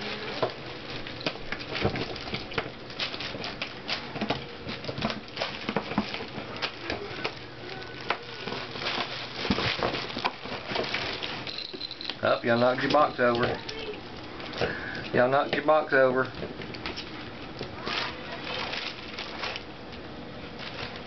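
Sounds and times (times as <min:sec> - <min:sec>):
plastic sheet crinkling: 0:00.0 - 0:21.0
puppies scrabbling: 0:00.0 - 0:21.0.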